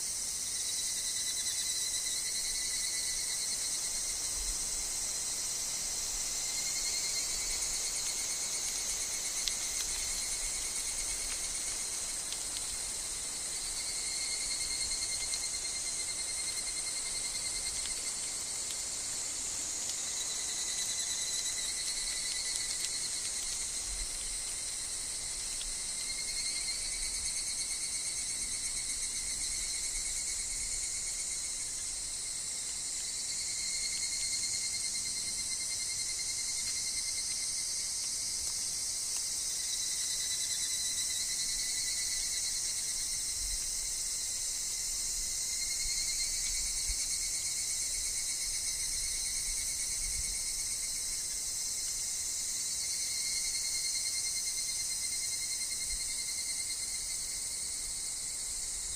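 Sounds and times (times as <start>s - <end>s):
evening cicadas calling: 0.0s - 58.9s
high-pitched insect chorus: 0.0s - 58.9s.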